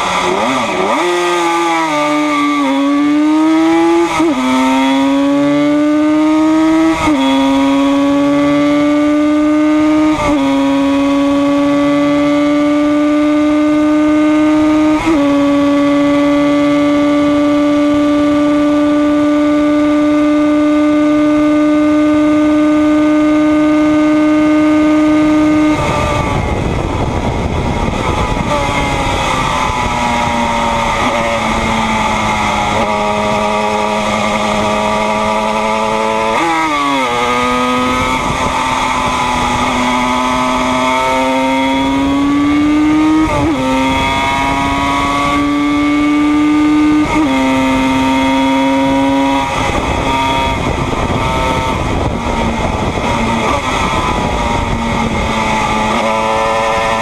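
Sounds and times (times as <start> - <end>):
two-stroke race engine revving: 0.0 - 57.0.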